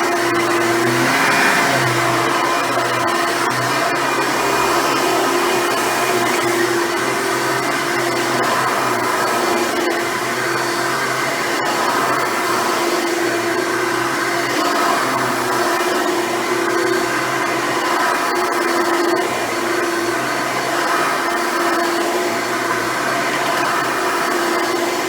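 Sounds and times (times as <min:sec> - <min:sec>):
vacuum cleaner motor hum: 0:00.0 - 0:25.0.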